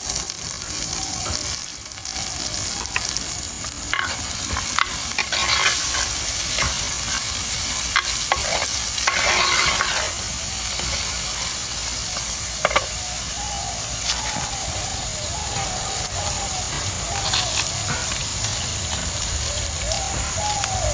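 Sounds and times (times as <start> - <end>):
food sizzling in hot oil: 0.0 - 20.9.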